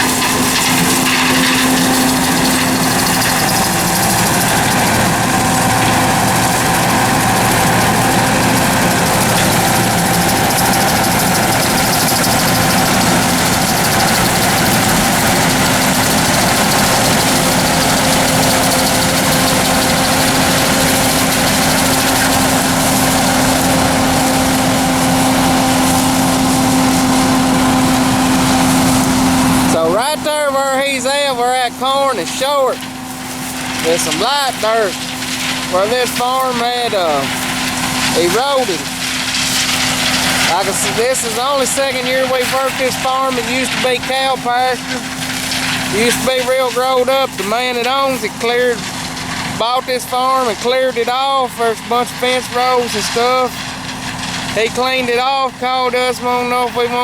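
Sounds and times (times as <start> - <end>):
combine harvester engine drone: 0.0 - 57.0.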